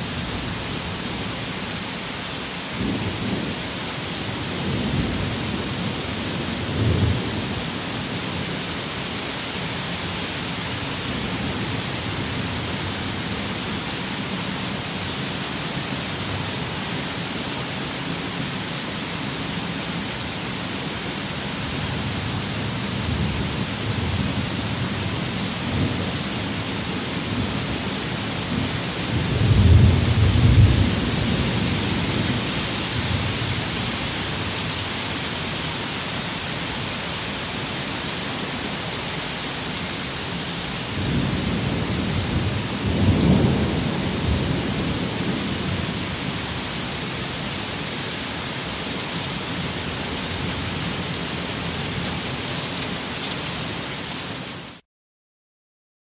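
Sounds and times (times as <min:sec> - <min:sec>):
rain and wind: 0:00.0 - 0:54.8.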